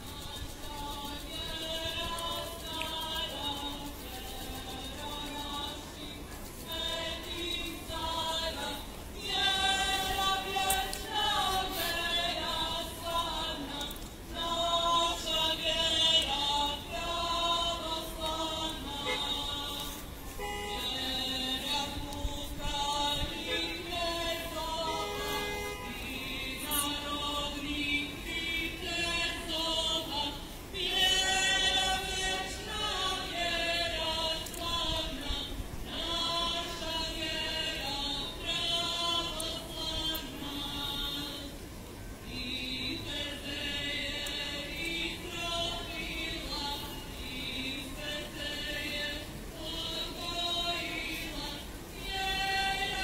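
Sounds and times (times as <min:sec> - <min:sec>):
choir singing slow phrases: 0:00.0 - 0:53.0.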